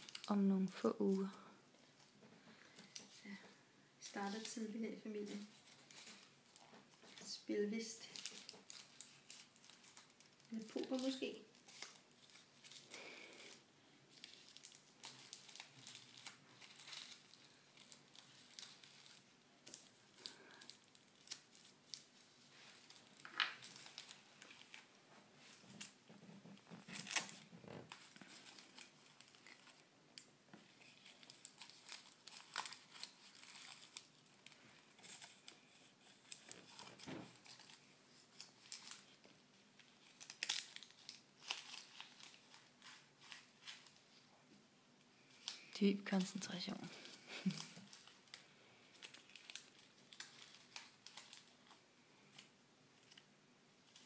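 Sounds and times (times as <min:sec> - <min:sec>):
paper rustling and crinkling: 0:00.0 - 0:29.9, 0:30.5 - 0:44.3, 0:45.2 - 0:54.0.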